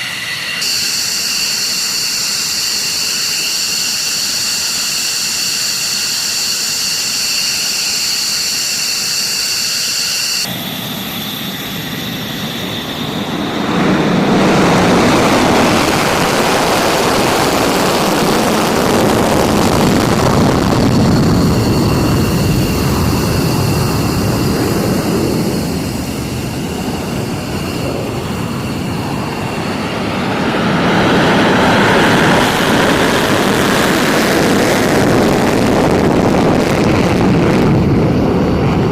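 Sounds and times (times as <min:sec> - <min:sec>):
jet engine roar: 0:00.0 - 0:38.9
jet turbine whine: 0:00.0 - 0:38.9.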